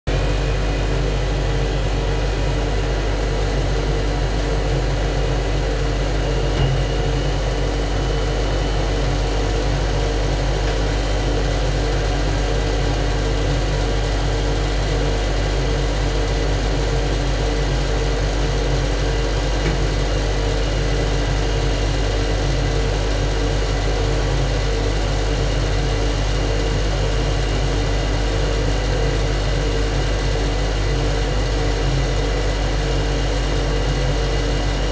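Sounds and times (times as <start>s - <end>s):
engine room machinery drone: 0.1s - 34.9s.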